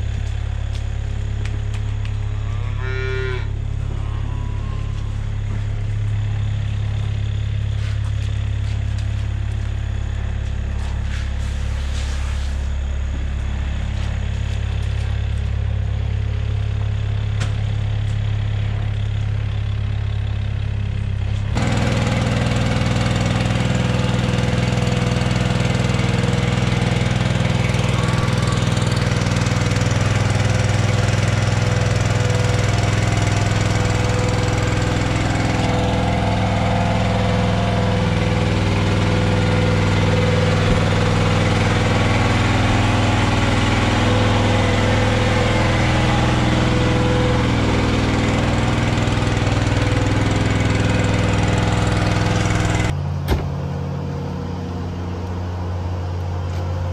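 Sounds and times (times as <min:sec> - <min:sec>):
farm machine engine running: 0:00.0 - 0:56.9
small cart engine: 0:00.0 - 0:56.9.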